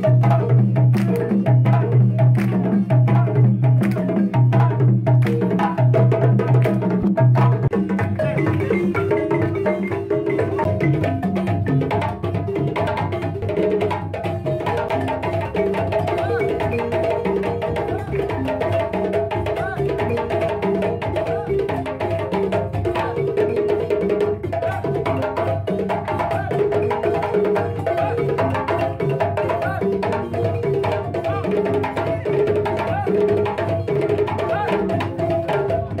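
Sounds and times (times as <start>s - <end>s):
hand drum ensemble playing: 0.0s - 36.0s.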